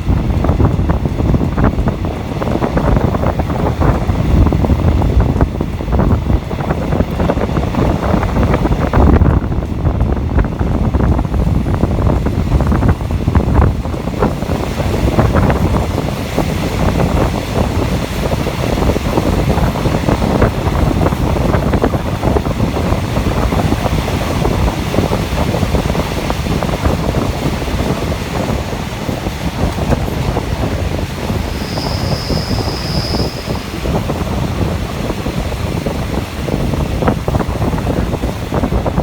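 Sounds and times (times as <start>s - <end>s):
train running on track: 0.0s - 39.0s
wind buffeting microphone: 0.0s - 39.0s.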